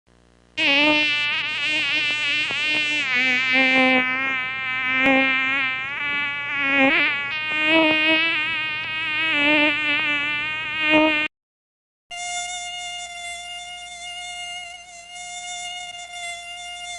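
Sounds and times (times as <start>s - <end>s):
mosquito whining in flight: 0.6s - 11.3s, 12.2s - 16.9s.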